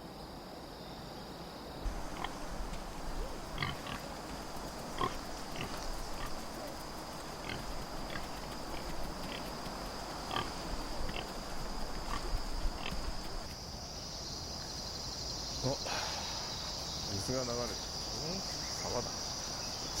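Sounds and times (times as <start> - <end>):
high-pitched insect drone: 0.8 - 20.0.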